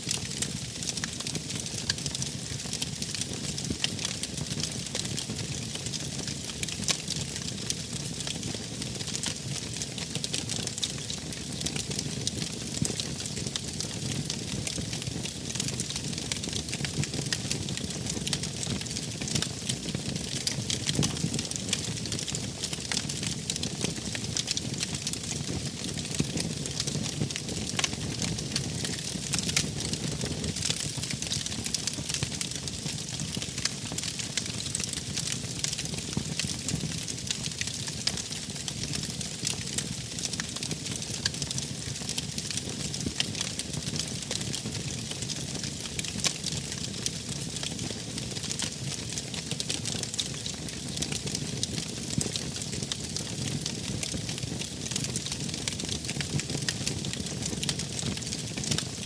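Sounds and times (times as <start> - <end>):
wood fire crackling: 5.6 - 58.9.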